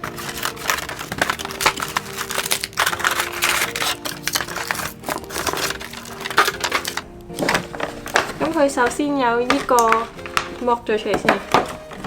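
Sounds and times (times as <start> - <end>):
packaging rustling and crinkling: 0.0 - 12.0
soft background music: 0.0 - 12.0.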